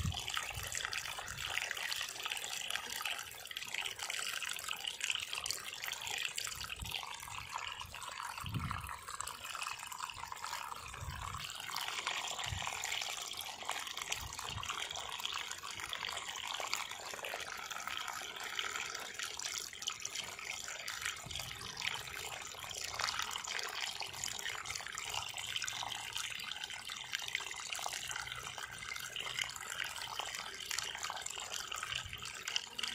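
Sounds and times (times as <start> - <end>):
water spilling onto muddy ground: 0.0 - 32.9.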